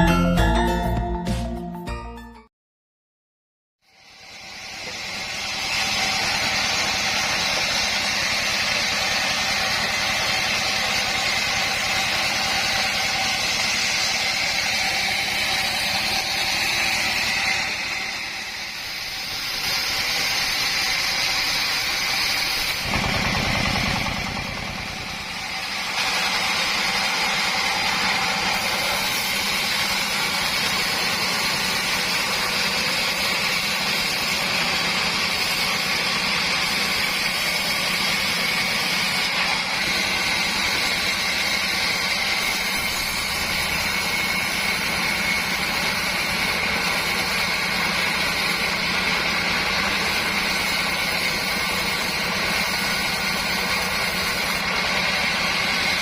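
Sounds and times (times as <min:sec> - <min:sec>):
sawmill sawing wood: 0:03.9 - 0:56.0.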